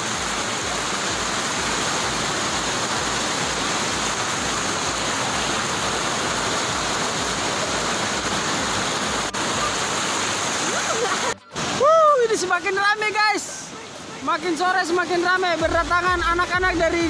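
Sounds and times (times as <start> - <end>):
waterfall cascading over rocks: 0.0 - 17.0.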